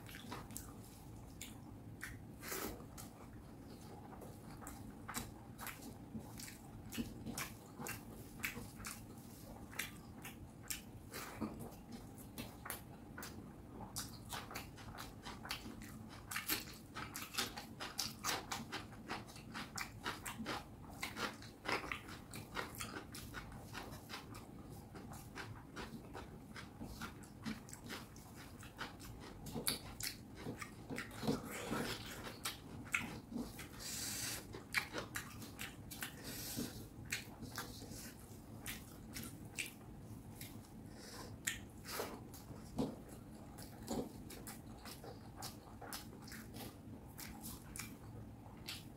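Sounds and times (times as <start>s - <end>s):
person chewing with wet mouth clicks: 0.0s - 48.9s.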